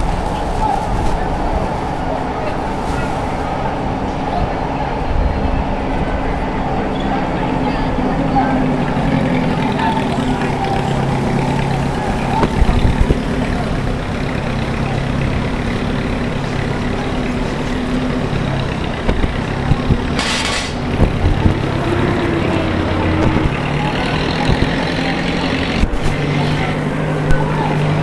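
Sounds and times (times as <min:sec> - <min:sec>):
heavy vehicle engine running: 0:00.0 - 0:28.0
street traffic noise: 0:00.0 - 0:28.0.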